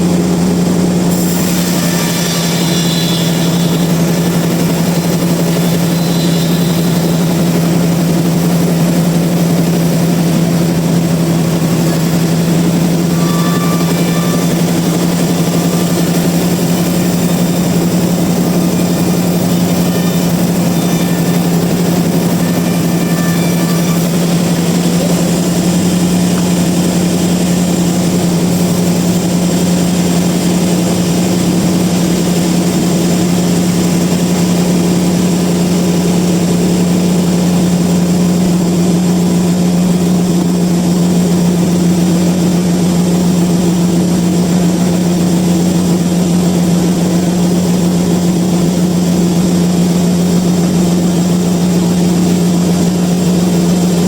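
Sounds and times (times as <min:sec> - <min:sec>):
sawmill machinery droning: 0:00.0 - 0:54.0.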